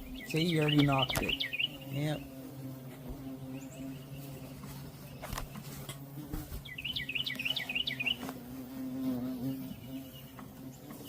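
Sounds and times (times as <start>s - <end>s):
fly buzzing: 0.0s - 11.0s
songbird chirping: 0.0s - 11.0s.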